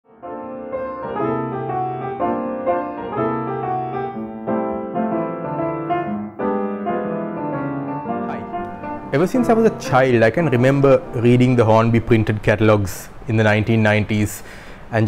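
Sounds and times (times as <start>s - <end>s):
piano chords: 0.0s - 14.1s.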